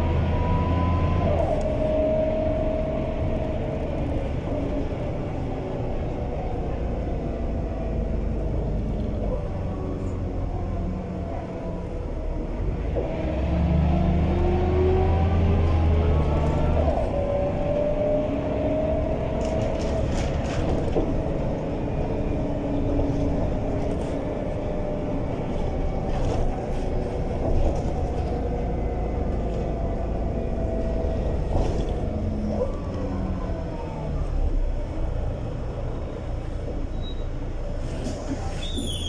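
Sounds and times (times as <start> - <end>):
bus engine drone: 0.0 - 39.0.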